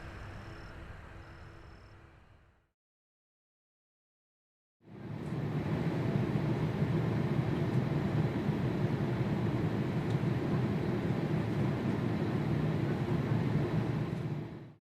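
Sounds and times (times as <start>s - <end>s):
jet engines rumbling: 0.0s - 2.6s, 4.9s - 14.8s.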